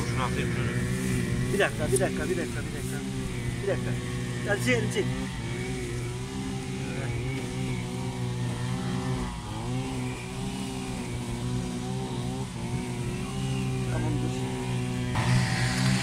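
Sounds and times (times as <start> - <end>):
brush cutter engine running: 0.0 - 16.0.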